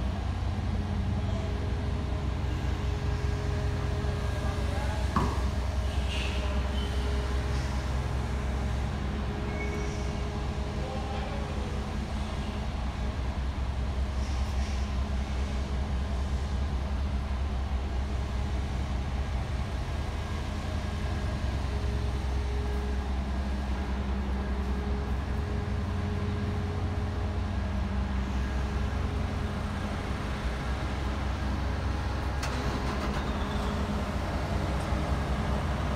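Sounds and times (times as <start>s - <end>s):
engine droning: 0.0s - 35.9s.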